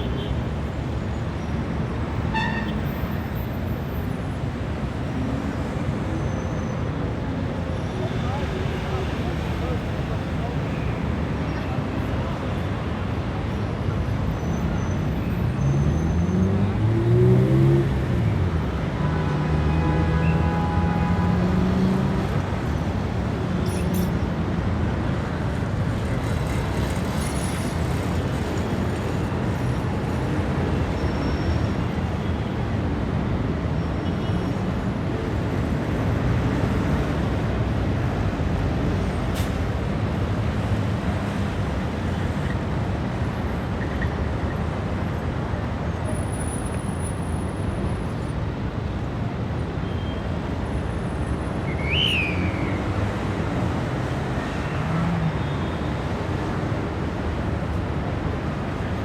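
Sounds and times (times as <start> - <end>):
dense city traffic: 0.0 - 59.0.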